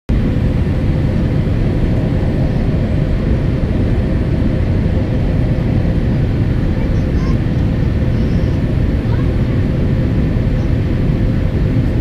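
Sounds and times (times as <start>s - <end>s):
airliner cabin rumble: 0.1s - 12.0s.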